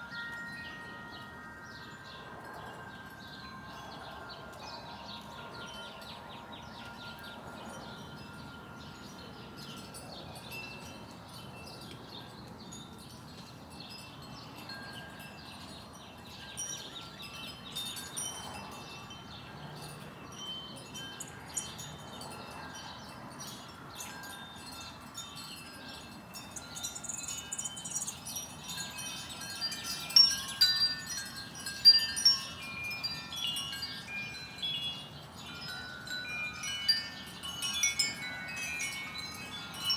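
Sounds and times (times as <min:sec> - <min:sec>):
wind chimes ringing: 0:00.0 - 0:39.9.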